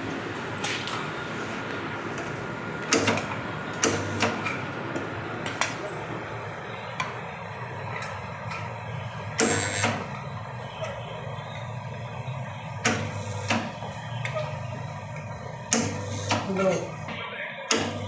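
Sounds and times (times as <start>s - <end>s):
welding machine humming: 0.0s - 18.0s.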